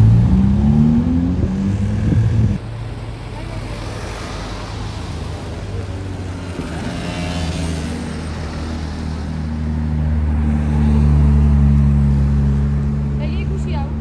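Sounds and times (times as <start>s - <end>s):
passing car traffic: 0.0s - 14.0s.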